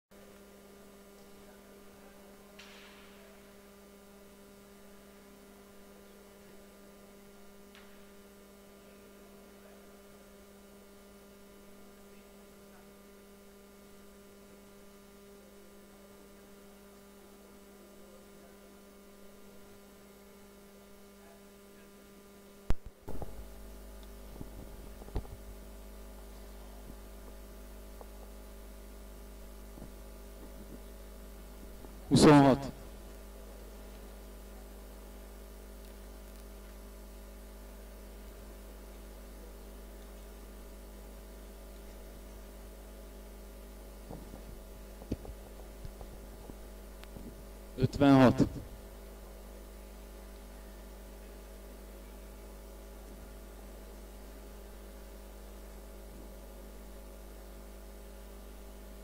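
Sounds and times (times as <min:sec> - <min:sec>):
electrical mains hum: 0:00.1 - 0:59.0.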